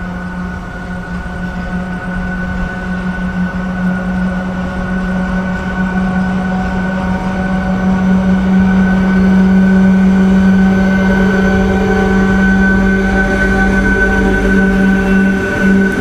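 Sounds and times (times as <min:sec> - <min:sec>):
locomotive humming: 0:00.0 - 0:16.0
low rumble: 0:00.0 - 0:16.0.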